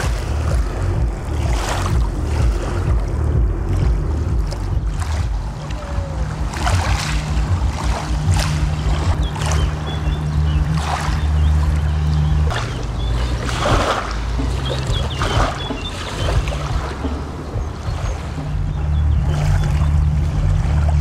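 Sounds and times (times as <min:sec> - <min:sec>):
low bass drone: 0:00.0 - 0:21.0
river water: 0:00.0 - 0:21.0.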